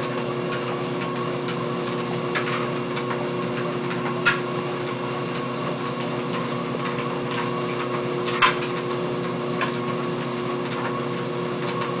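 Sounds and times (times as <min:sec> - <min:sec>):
treadmill humming: 0:00.0 - 0:12.0.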